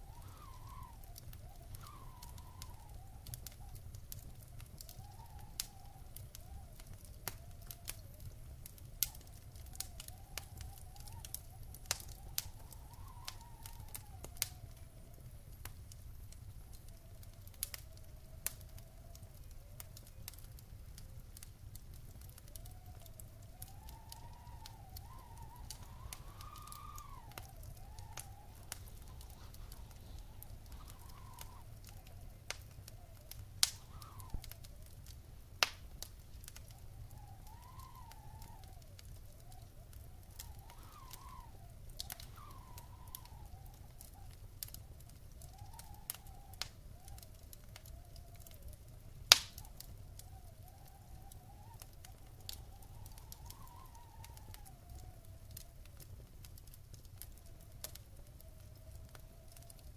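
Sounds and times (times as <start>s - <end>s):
faint wavering whistle: 0.0s - 15.6s, 16.2s - 56.2s, 57.1s - 59.9s
wood fire crackling: 0.0s - 59.9s.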